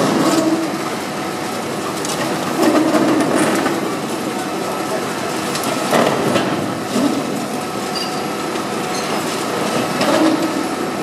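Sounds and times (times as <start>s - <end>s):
demolition machinery clattering: 1.8s - 10.8s.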